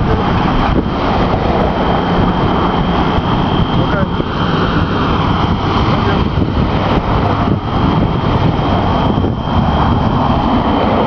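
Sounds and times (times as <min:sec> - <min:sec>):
loud steady rumble: 0:00.0 - 0:11.0.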